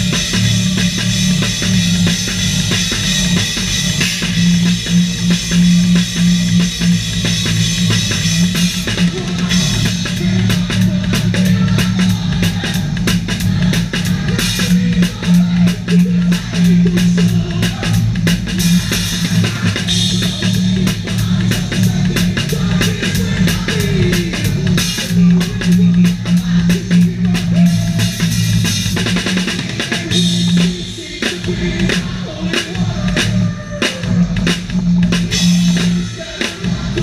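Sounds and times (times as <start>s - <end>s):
rock drum kit played fast: 0.0s - 37.0s.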